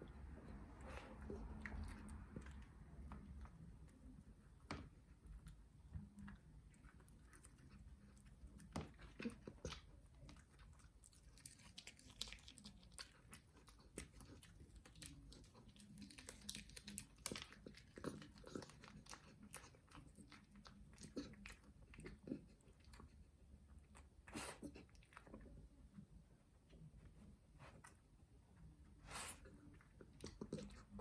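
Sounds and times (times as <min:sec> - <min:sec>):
dog chewing food: 0:00.0 - 0:25.8.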